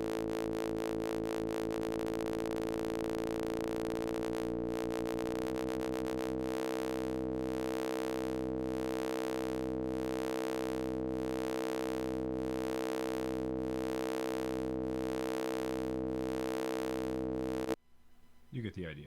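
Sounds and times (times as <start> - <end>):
synthesized electronic hum pulsing: 0.0 - 18.6.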